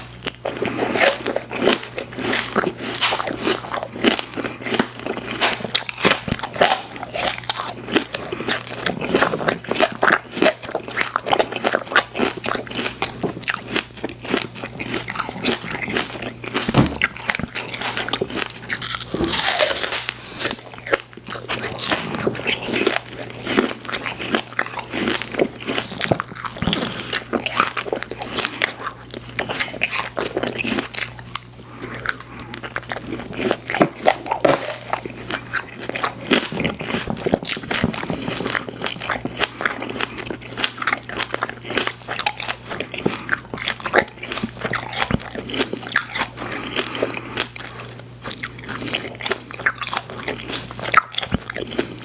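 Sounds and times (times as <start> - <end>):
person chewing sweets: 0.0 - 52.0.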